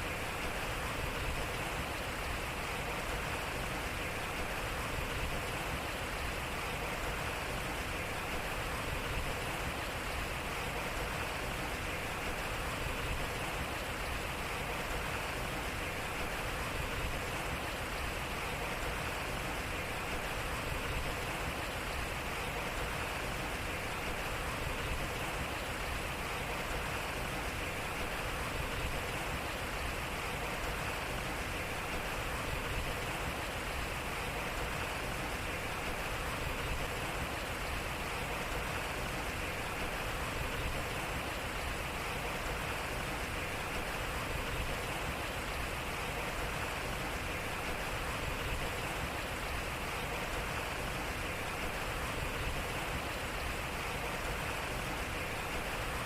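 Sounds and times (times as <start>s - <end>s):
water splashing at waterwheel: 0.0s - 56.0s.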